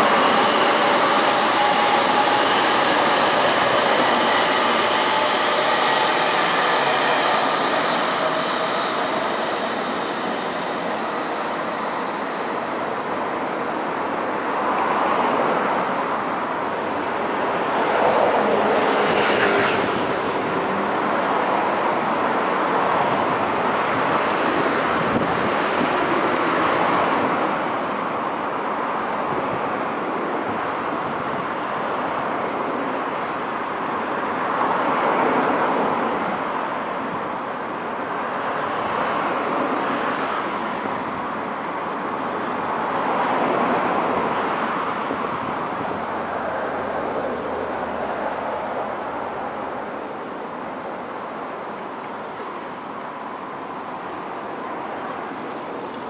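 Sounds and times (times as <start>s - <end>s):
road traffic with cars passing: 0.0s - 56.0s.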